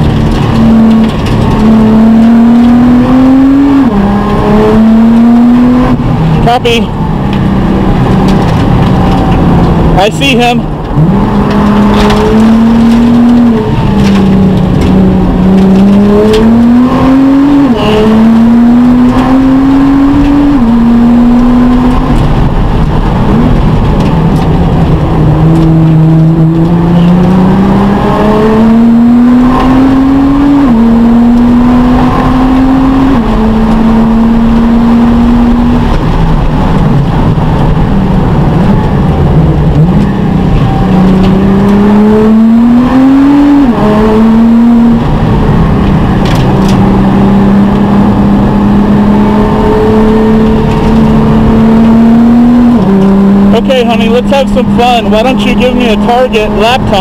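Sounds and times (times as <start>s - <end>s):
car engine revving through gears: 0.0s - 57.0s.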